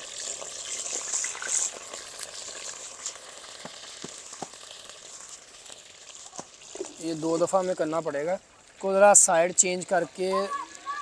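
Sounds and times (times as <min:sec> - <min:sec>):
chicken sizzling in oil: 0:00.0 - 0:11.0
oil popping: 0:00.0 - 0:11.0.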